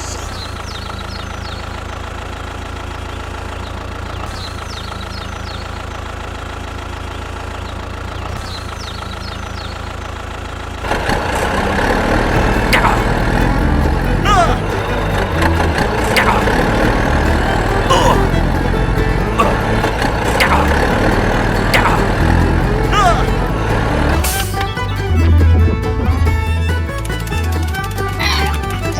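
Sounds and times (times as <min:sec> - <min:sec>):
engine idling: 0:00.0 - 0:28.9.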